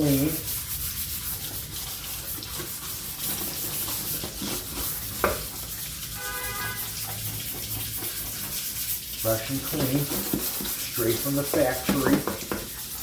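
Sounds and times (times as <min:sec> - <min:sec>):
rag scrubbing a grate: 0:00.0 - 0:13.0.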